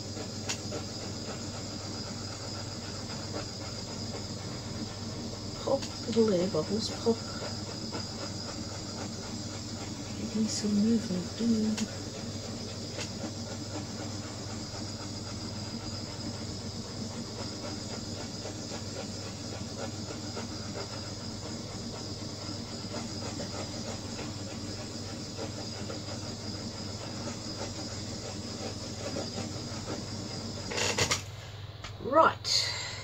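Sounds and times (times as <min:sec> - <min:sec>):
heat tool hissing and humming: 0:00.0 - 0:33.0.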